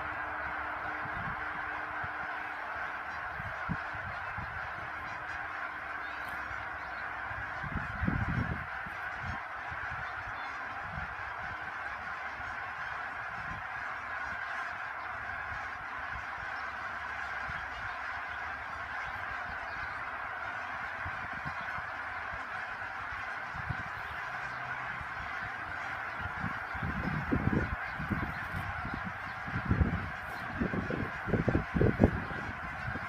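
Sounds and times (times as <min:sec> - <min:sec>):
geese honking in flight: 0:00.0 - 0:33.0.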